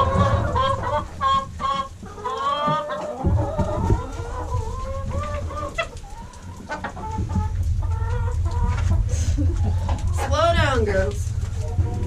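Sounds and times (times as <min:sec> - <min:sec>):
low rumble: 0:00.0 - 0:02.1, 0:03.2 - 0:12.0
hens clucking: 0:00.0 - 0:12.0.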